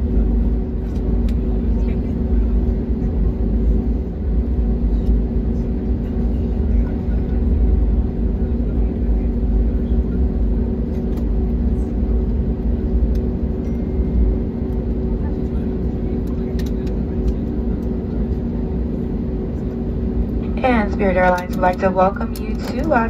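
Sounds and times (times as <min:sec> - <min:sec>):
constant droning hum: 0:00.0 - 0:23.0
jet engines rumbling: 0:00.0 - 0:23.0.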